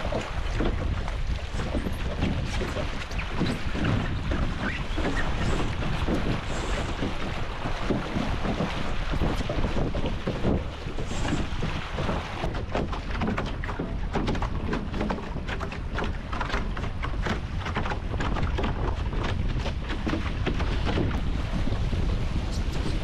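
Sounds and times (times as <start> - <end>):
water rushing past hulls: 0.0 - 23.0
wind buffeting microphone: 0.0 - 23.0.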